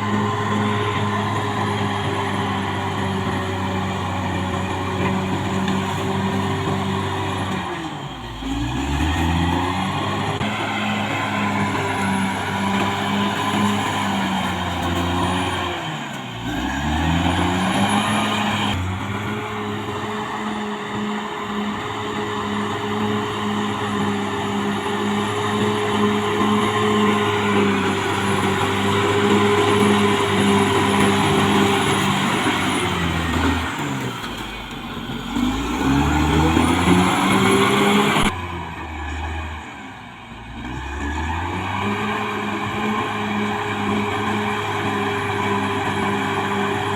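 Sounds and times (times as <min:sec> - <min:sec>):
bulldozer diesel engine under load: 0:00.0 - 0:46.9.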